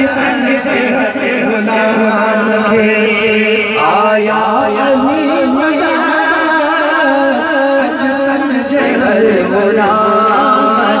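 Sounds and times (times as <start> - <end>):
men singing through pa system: 0.0 - 11.0.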